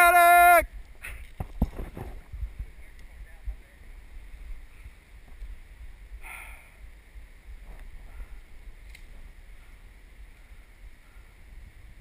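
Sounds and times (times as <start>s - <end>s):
wind rumble on microphone: 0.6s - 12.0s.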